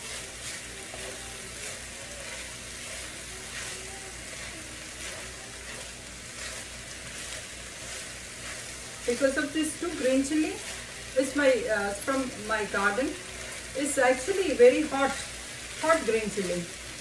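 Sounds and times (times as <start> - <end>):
spatula scraping a pan: 0.0 - 16.5
fried rice sizzling: 0.0 - 17.0.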